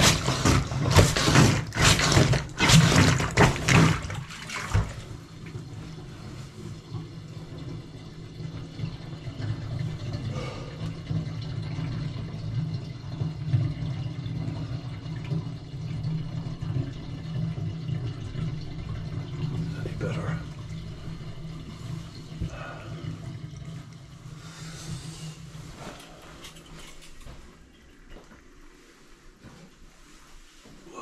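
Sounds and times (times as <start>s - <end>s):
water running: 0.0s - 31.0s.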